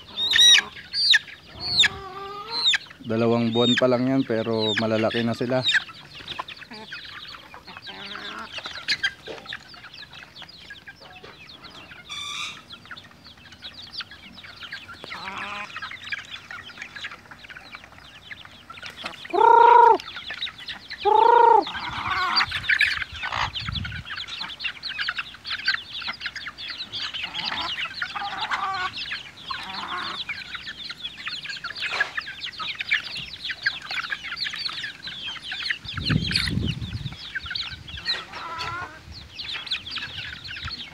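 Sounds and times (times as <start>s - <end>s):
chicken drawn-out calls: 0.0s - 40.9s
chickens clucking and peeping: 0.0s - 40.9s.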